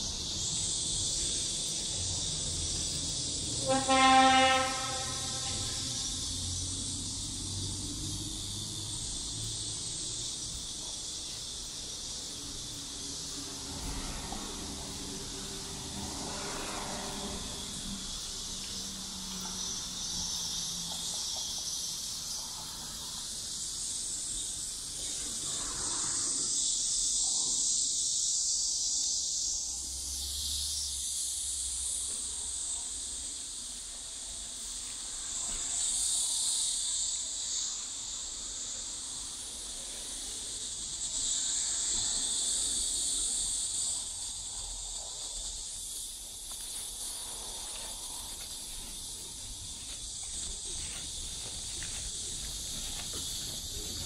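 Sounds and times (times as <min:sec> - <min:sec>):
cicadas buzzing: 0:00.0 - 0:54.0.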